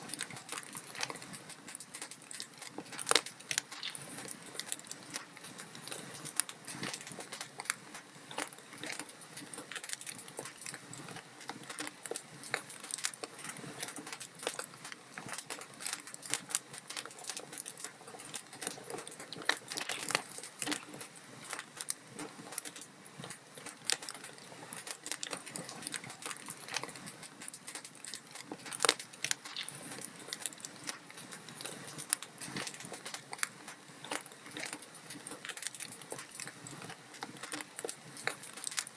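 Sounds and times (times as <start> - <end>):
log fire crackling: 0.0 - 38.9.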